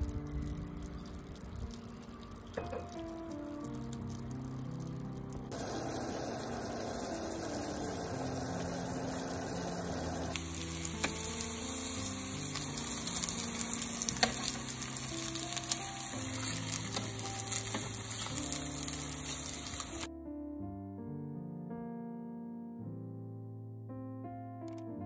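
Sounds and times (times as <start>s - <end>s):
food frying in oil: 0.0s - 20.1s
syrup bubbling at a boil: 0.0s - 20.1s
soft background music: 0.0s - 25.0s.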